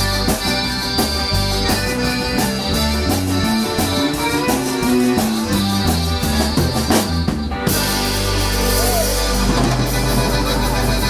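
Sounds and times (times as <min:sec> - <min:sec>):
accordion: 0:00.0 - 0:11.0
bass guitar: 0:00.0 - 0:11.0
drum kit: 0:00.0 - 0:11.0
electric guitar: 0:00.0 - 0:11.0.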